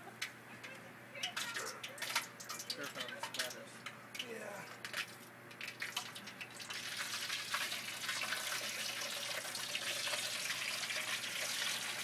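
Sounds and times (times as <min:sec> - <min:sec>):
hot oil sizzling and bubbling: 0:01.4 - 0:03.6, 0:04.2 - 0:12.0.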